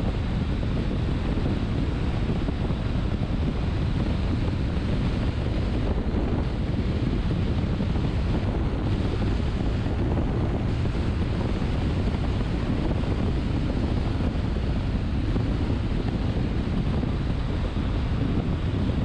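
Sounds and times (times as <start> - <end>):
car wind and tyre noise: 0.0 - 19.0
wind buffeting microphone: 0.0 - 19.0.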